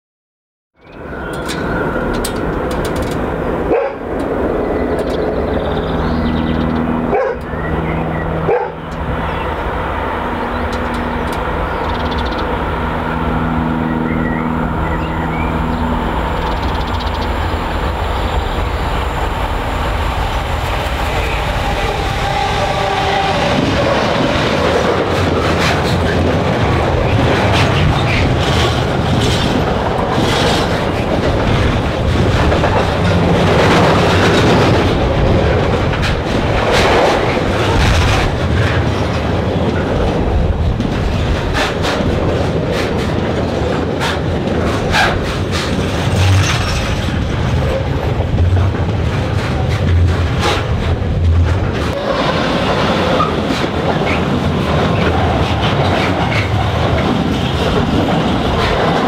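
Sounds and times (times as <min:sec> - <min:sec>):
train wheels rumbling on rail: 0:00.8 - 0:59.0
clickety-clack over rail joints: 0:01.2 - 0:07.6, 0:08.4 - 0:13.0, 0:18.9 - 0:59.0.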